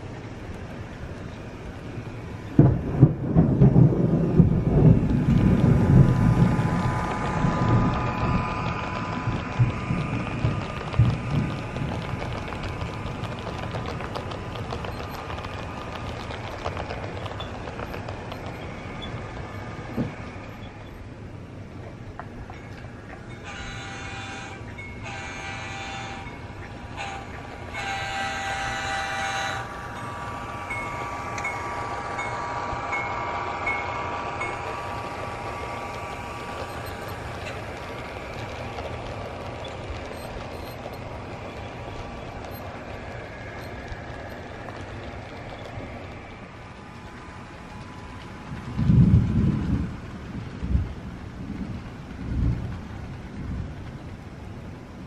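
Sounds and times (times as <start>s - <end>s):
low rumble: 0.0s - 23.5s, 26.2s - 55.0s
steady rain hiss: 0.0s - 55.0s.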